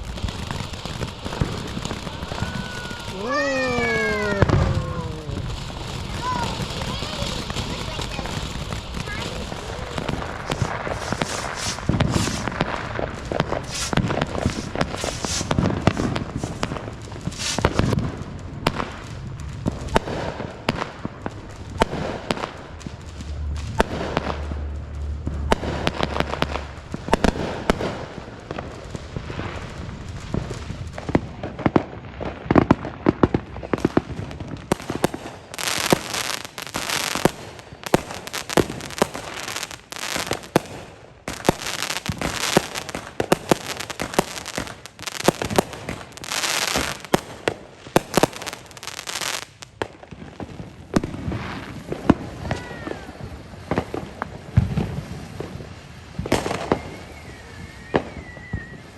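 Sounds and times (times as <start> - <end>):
firecrackers popping and crackling: 0.0 - 58.9.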